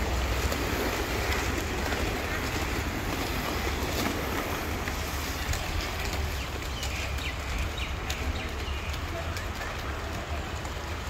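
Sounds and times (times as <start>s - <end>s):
inline skates rolling: 0.0s - 11.0s
skate wheels clicking and knocking: 0.0s - 11.0s.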